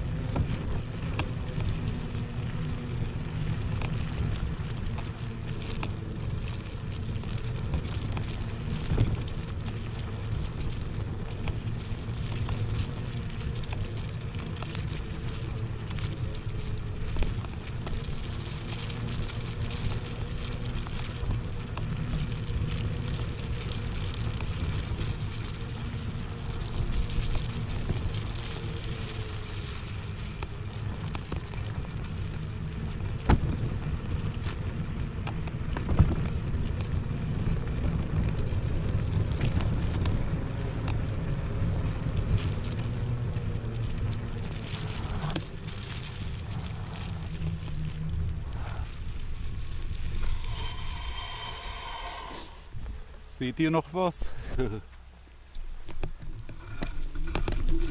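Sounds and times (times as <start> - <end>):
scooter tyres rumbling: 0.0 - 53.4, 55.6 - 57.9
faint steady hum: 0.0 - 57.9.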